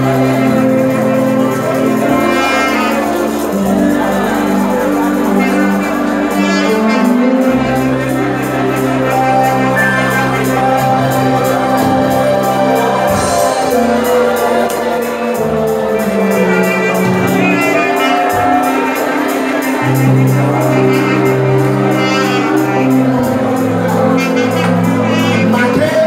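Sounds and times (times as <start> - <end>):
live band music: 0.0 - 26.0
low bass notes: 0.0 - 26.0
saxophone melody: 0.0 - 26.0.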